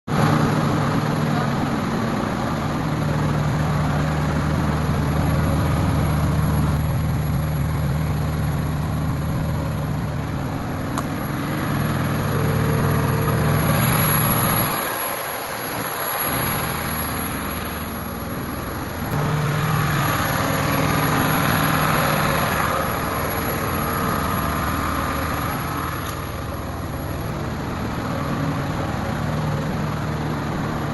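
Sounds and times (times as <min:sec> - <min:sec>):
diesel generator humming: 0:00.1 - 0:30.9.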